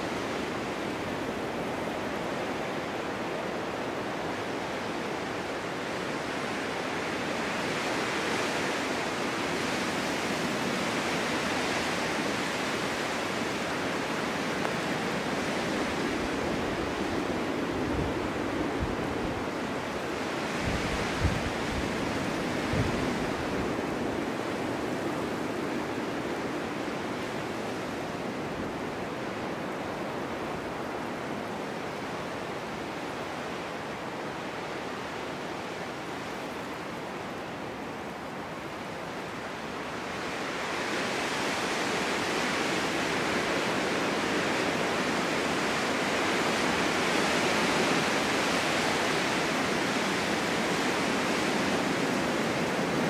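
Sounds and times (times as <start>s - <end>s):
snowstorm wind blowing: 0.0s - 53.0s.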